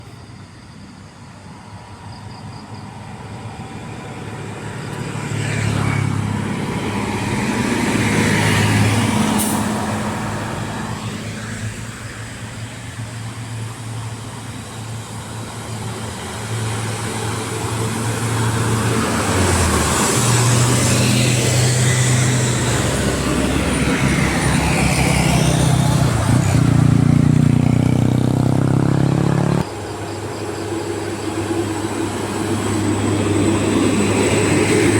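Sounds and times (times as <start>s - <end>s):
heavy diesel engines labouring: 0.0s - 34.9s.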